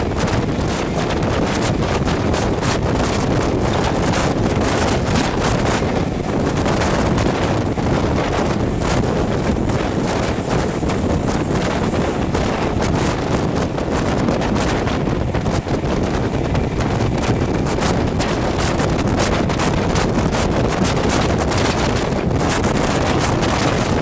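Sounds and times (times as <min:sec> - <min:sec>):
train running rumble: 0:00.0 - 0:24.0
wind buffeting microphone: 0:00.0 - 0:24.0.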